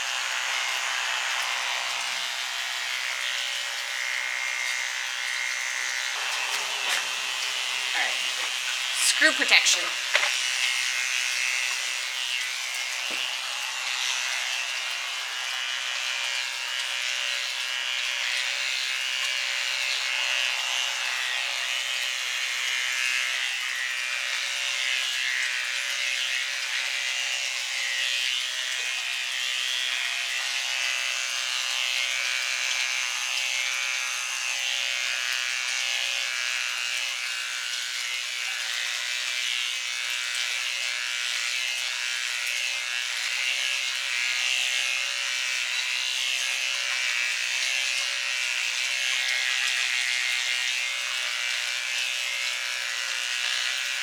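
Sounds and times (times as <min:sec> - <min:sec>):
electric hair clippers buzzing: 0:00.0 - 0:54.0.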